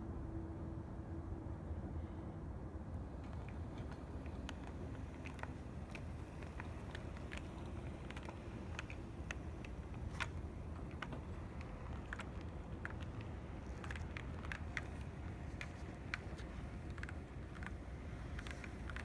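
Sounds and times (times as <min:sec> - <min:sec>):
wheels clicking over rail joints: 0:03.1 - 0:19.0.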